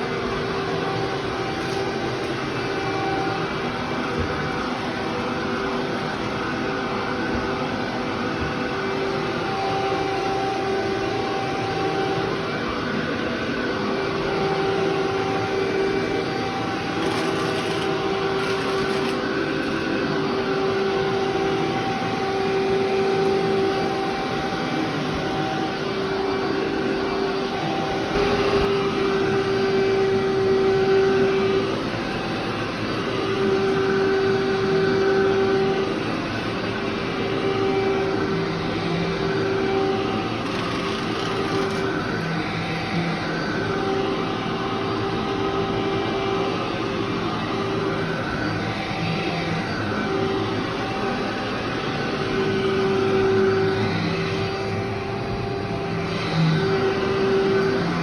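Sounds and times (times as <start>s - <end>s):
vacuum cleaner on carpet: 0.0s - 58.0s.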